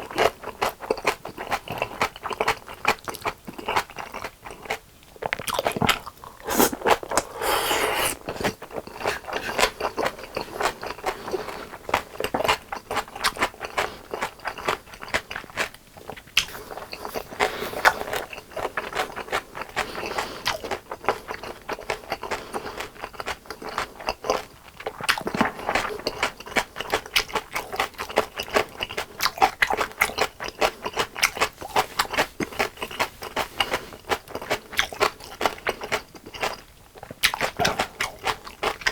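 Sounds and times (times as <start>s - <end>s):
crunching and chewing fried chicken: 0.0s - 38.9s.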